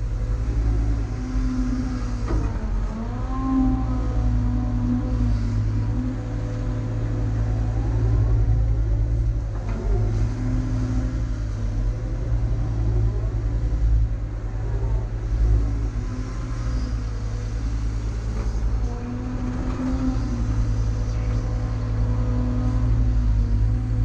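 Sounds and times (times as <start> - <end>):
diesel engine rumbling under load: 0.0 - 24.0.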